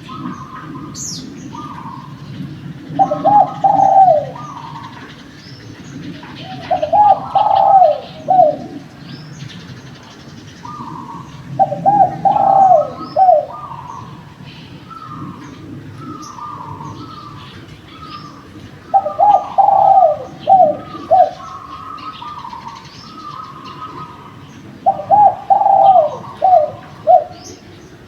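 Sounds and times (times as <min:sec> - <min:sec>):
dove cooing: 0:00.0 - 0:09.7, 0:10.6 - 0:28.0
small birds chirping: 0:00.0 - 0:28.0.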